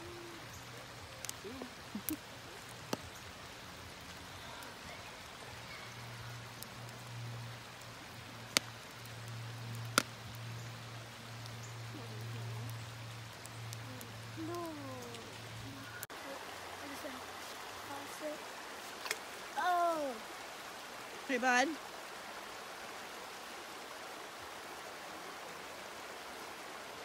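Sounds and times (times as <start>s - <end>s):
water rushing over stones: 0.0s - 27.0s.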